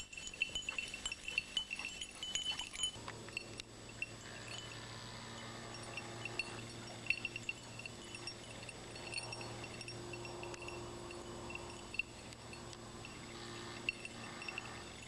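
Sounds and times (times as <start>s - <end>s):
dog collar bell tinkling: 0.0s - 15.0s
faint steady hum: 0.0s - 15.0s.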